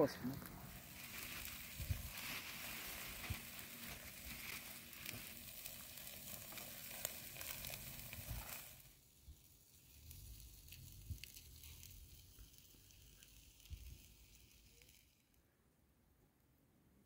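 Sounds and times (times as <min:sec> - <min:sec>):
meat sizzling on a grill: 0:00.4 - 0:15.3.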